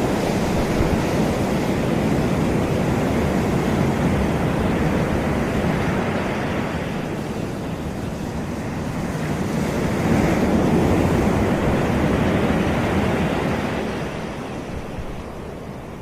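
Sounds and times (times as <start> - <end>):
waves breaking on sand: 0.0 - 16.0
wind noise on microphone: 0.0 - 16.0.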